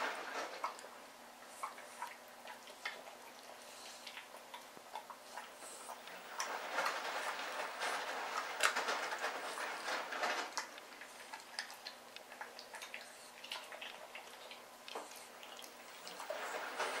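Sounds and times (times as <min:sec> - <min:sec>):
puppy crunching bones: 0:00.0 - 0:17.0.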